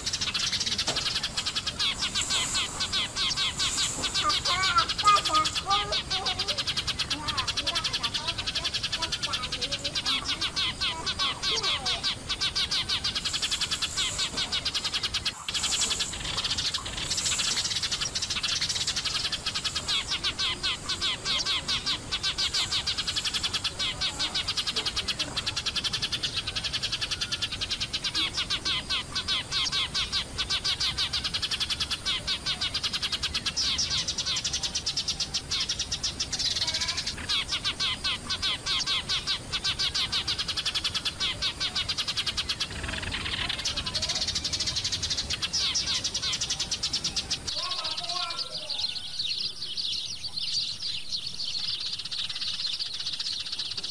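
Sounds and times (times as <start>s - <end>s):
sparrows chirping: 0.0s - 53.9s.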